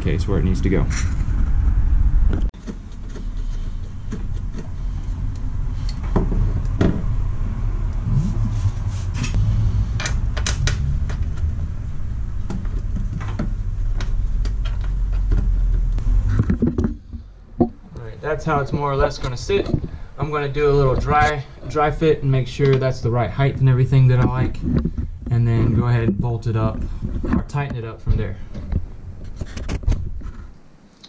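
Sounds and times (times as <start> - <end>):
steady low rumble: 0.0 - 29.4.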